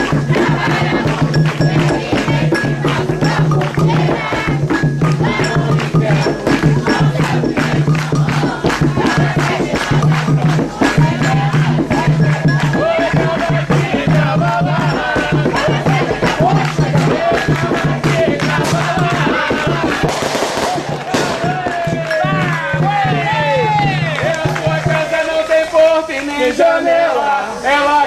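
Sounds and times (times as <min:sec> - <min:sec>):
fast drumming: 0:00.0 - 0:25.4
voices singing: 0:00.0 - 0:28.0.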